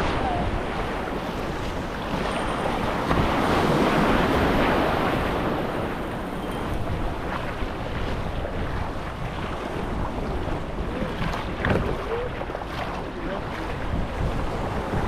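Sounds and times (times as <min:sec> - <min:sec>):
water sloshing and splashing: 0:00.0 - 0:15.0
wind buffeting microphone: 0:00.0 - 0:15.0.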